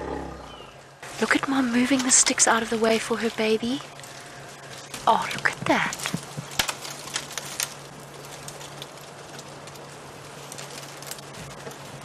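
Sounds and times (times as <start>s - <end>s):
low hum: 0.0s - 12.0s
twigs crackling and snapping: 0.9s - 12.0s.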